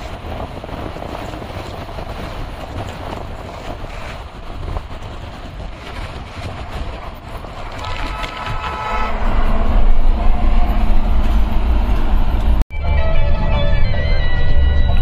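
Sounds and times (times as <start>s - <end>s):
road and wind noise rumble: 0.0s - 15.0s.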